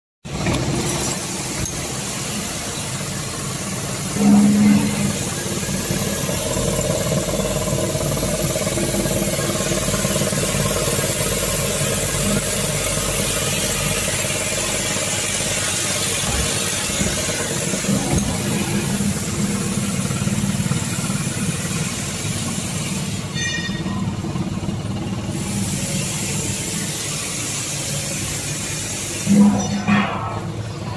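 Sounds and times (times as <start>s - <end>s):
welding machine running: 0.3s - 30.9s
loud low buzz: 3.0s - 30.9s.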